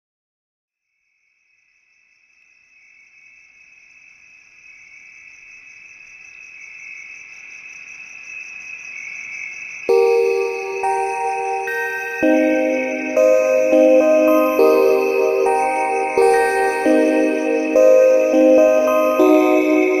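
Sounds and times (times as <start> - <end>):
insects chirping with pulsing trill: 1.3 - 20.0.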